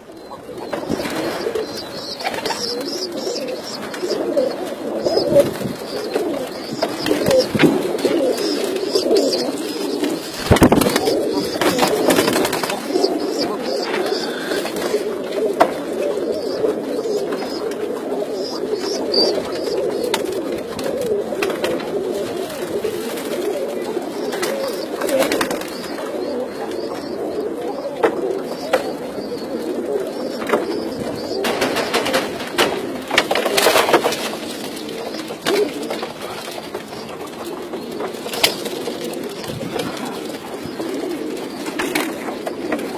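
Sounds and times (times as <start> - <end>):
many birds warbling: 0.0 - 42.9
pigeons cooing: 0.0 - 42.9.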